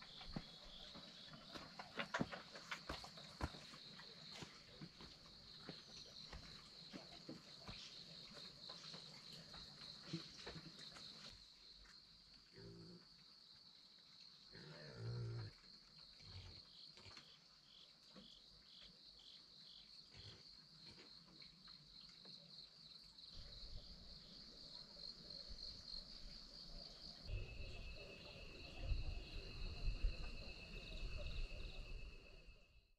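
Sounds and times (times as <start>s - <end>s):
lower insect trill: 0.0s - 32.8s.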